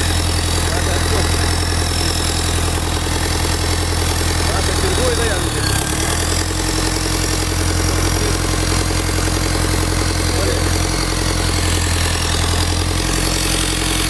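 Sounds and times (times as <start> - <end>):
diesel engine idling: 0.0 - 14.0
exhaust puffing: 0.0 - 14.0.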